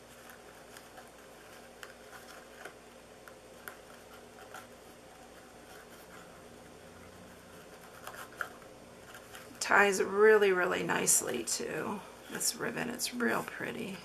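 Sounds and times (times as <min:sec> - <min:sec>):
low room hum: 0:00.0 - 0:14.0
ribbon rustling and ticking: 0:00.0 - 0:14.0.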